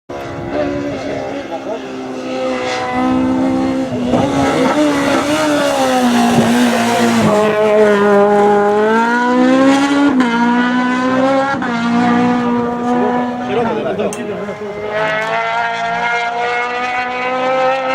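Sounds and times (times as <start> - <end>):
race car engine revving: 0.1 - 17.9.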